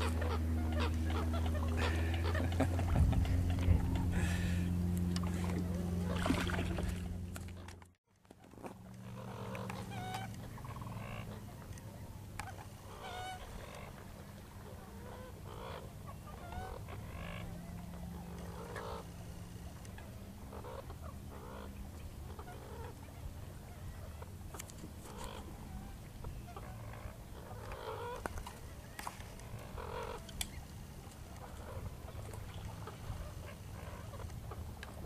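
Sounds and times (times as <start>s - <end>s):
croaking and honking animal calls: 0.0s - 7.7s, 8.8s - 35.0s
steady low hum: 0.0s - 35.0s.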